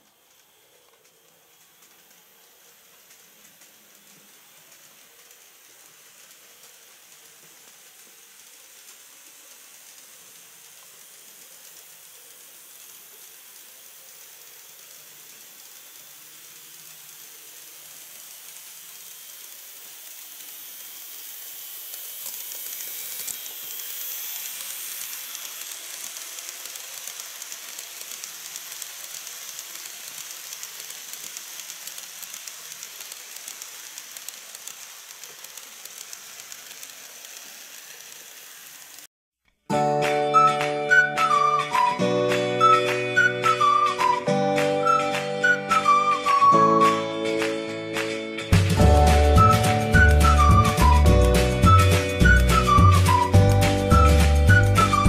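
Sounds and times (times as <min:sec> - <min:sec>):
model train whirring on track: 0:00.0 - 0:39.1, 0:40.0 - 0:55.0.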